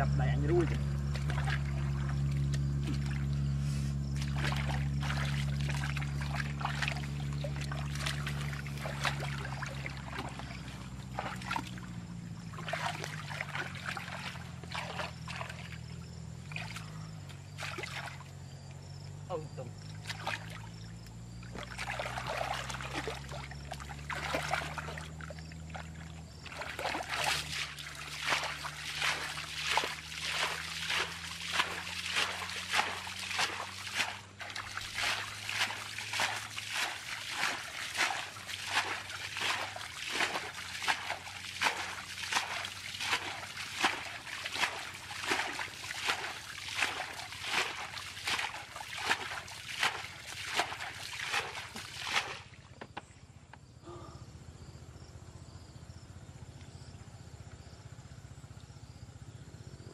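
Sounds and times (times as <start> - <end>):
muddy water sloshing and splashing: 0.0 - 54.1.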